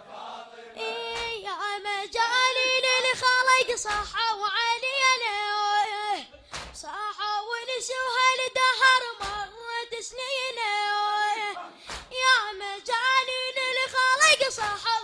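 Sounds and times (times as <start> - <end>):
boy chanting into a microphone: 0.8 - 15.0.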